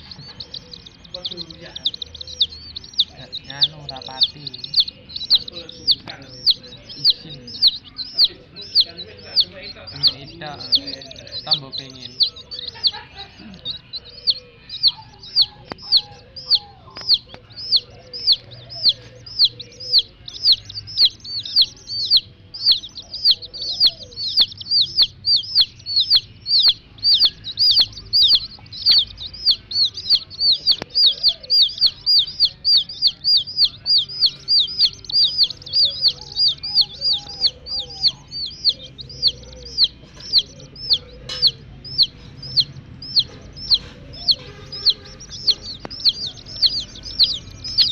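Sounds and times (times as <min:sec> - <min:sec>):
chicks peeping: 0:00.0 - 0:47.9
hen clucking: 0:00.0 - 0:47.9.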